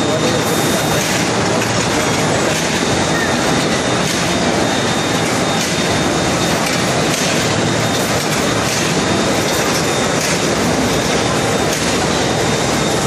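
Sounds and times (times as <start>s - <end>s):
exhibition hall din: 0.0s - 13.0s
machine line running: 0.0s - 13.0s.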